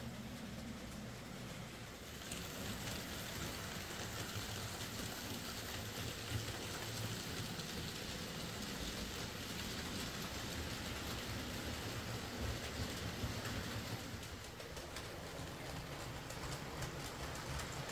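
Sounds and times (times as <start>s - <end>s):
model train rolling on track: 0.0s - 17.9s.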